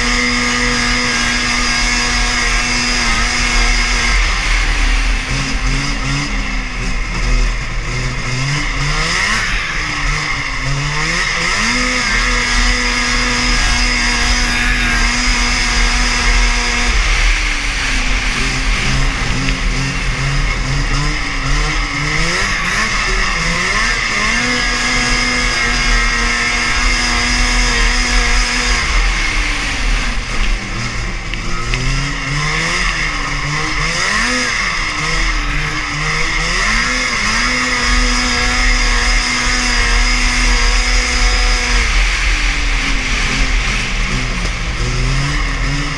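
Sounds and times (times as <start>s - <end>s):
two-stroke snowmobile engine revving: 0.0s - 45.9s.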